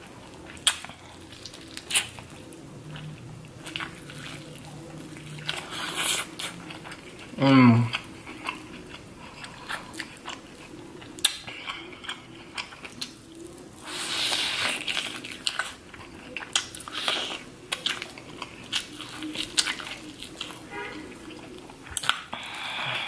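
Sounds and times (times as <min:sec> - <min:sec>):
chewing corn on the cob: 0:00.0 - 0:23.0
slurping: 0:00.6 - 0:23.0.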